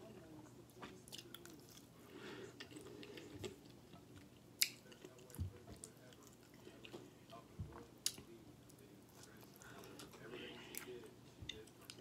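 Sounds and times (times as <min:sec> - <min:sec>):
person chewing food: 0:00.8 - 0:12.0.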